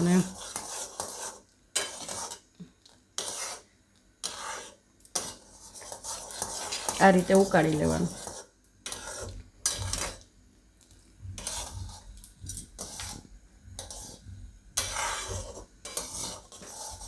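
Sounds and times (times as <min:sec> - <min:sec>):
metal spatula scraping pan: 0:00.0 - 0:02.5, 0:03.2 - 0:10.2, 0:11.3 - 0:17.0.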